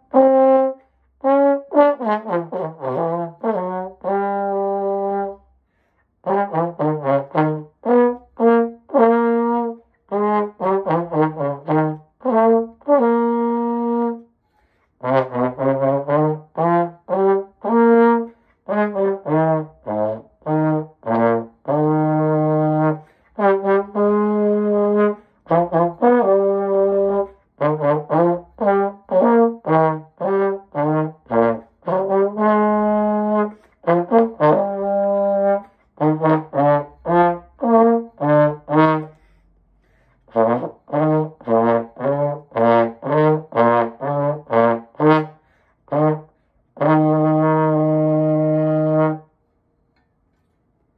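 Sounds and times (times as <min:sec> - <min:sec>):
trombone solo: 0:00.0 - 0:05.5, 0:06.2 - 0:14.3, 0:15.0 - 0:39.4, 0:40.2 - 0:49.4.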